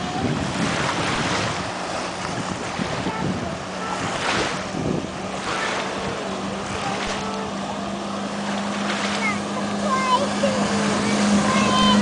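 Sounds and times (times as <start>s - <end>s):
motorboat engine droning: 0.0s - 12.0s
waves splashing against rocks: 0.0s - 12.0s
wind buffeting microphone: 0.0s - 12.0s.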